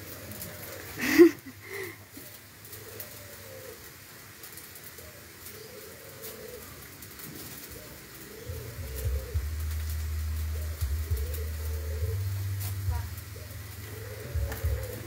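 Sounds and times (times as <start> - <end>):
doves cooing: 0.0 - 15.0.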